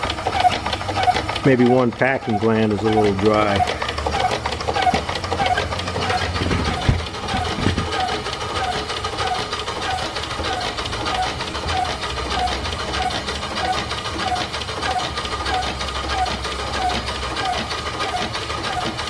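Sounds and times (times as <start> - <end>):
steam pump clattering: 0.0 - 19.0.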